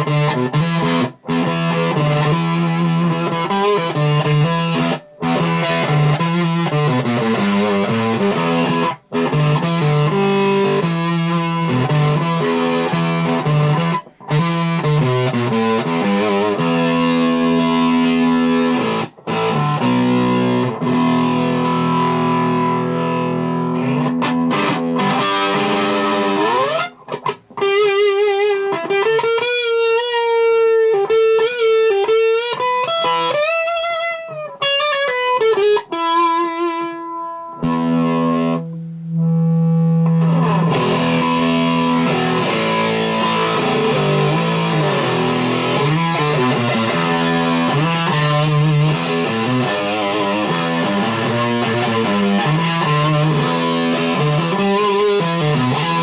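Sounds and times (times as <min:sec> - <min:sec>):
distorted fuzz electric guitar: 0:00.0 - 0:56.0.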